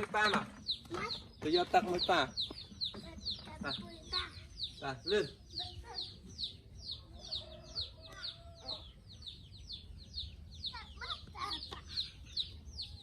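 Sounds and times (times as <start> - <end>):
chickens chirping: 0.0 - 13.0
chickens clucking: 0.0 - 13.0.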